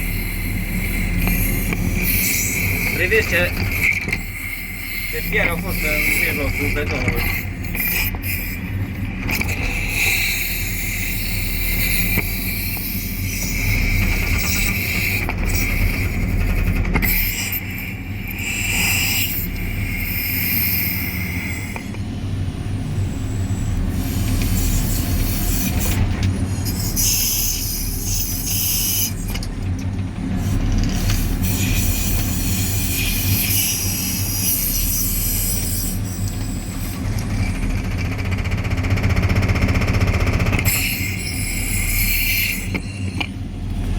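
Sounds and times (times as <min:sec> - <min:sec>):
diesel engine running: 0:00.0 - 0:43.9
mechanical and hydraulic whine: 0:00.0 - 0:43.9.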